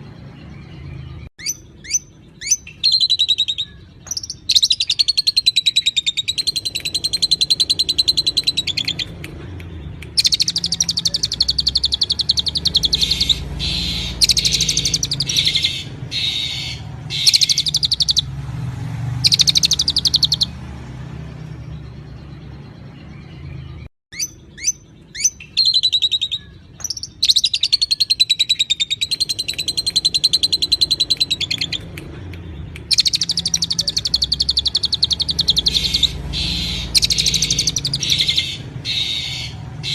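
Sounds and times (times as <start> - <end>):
songbird trilling: 0.0 - 18.3, 19.2 - 20.6, 22.1 - 39.9
sharp down-slurred bird whistles: 1.4 - 9.2, 10.0 - 18.3, 19.2 - 20.5, 24.1 - 31.8, 32.8 - 39.9.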